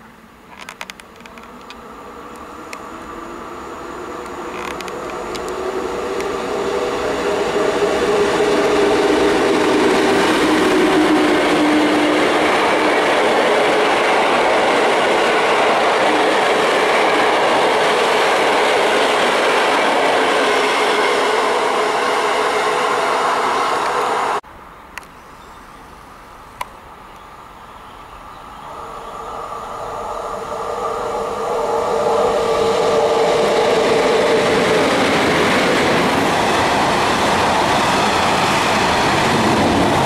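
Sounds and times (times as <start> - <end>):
train coaches rushing over rails: 1.0 - 24.4, 28.7 - 40.0.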